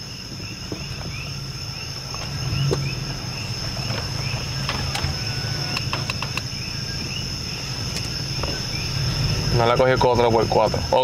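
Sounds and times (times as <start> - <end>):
low steady hum: 0.0 - 9.6
insects trilling and chirping: 0.0 - 11.0.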